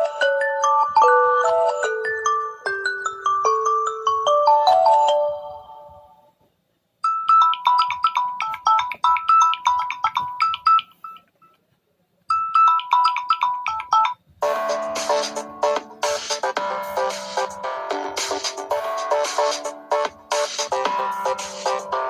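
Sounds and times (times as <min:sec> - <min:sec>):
fuller low ringtone: 0:00.0 - 0:06.2, 0:07.0 - 0:11.6, 0:12.3 - 0:22.0
chiming ringtone melody: 0:00.0 - 0:06.3, 0:07.0 - 0:11.6, 0:12.3 - 0:22.0
descending ringtone notes: 0:00.0 - 0:06.3, 0:07.0 - 0:11.5, 0:12.3 - 0:22.0.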